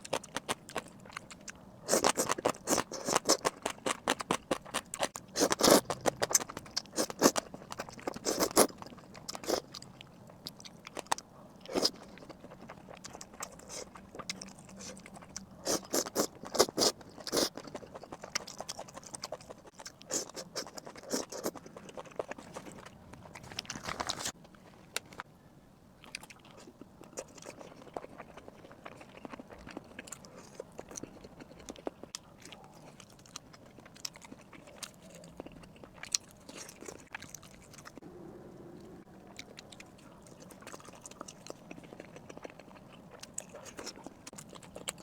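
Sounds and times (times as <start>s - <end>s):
person chewing and biting food: 0.0s - 9.9s, 10.5s - 25.2s, 26.0s - 38.0s, 39.2s - 45.0s.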